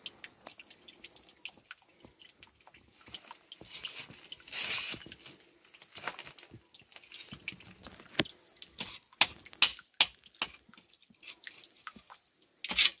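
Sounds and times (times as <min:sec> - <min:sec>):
water dripping into pool: 0:00.0 - 0:13.0.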